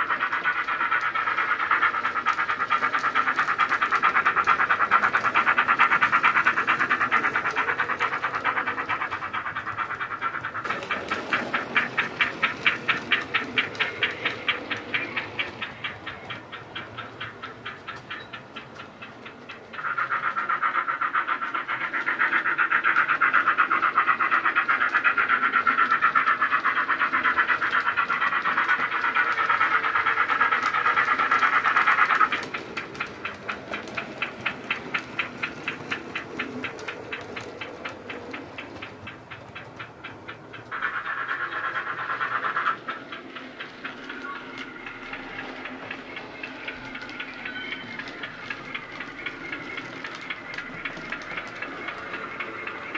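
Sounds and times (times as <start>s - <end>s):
steam locomotive exhaust chuffs: 0.0s - 52.9s.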